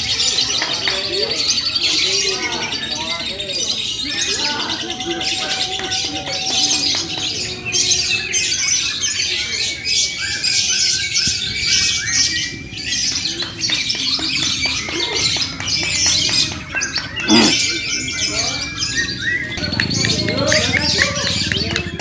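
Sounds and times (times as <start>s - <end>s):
lovebirds chattering and chirping: 0.0s - 22.0s.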